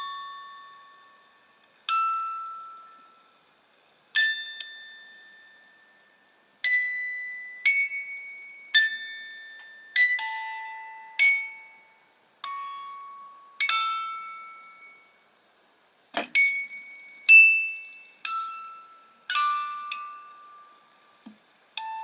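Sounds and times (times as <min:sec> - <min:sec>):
music box playing slow melody: 0:00.0 - 0:22.0.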